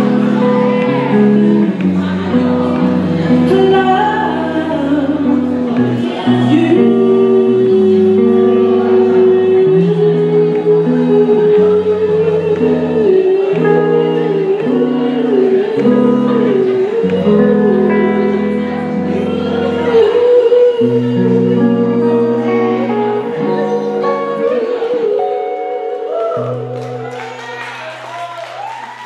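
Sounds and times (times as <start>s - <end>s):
woman singing: 3.2s - 27.9s.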